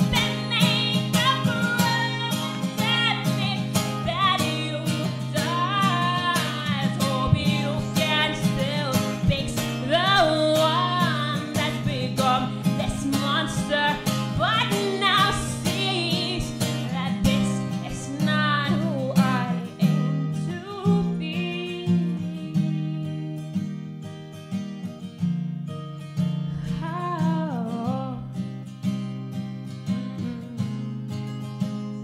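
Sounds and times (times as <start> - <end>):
woman singing: 0.0 - 23.9, 26.5 - 31.3
acoustic guitar strumming: 0.0 - 32.0.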